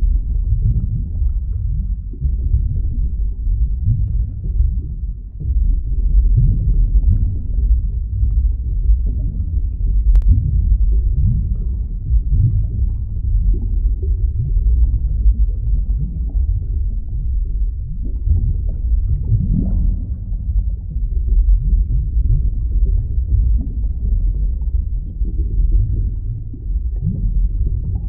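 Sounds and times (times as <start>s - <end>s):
deep underwater rumble: 0.0s - 28.0s
gliding low tones: 0.0s - 28.0s.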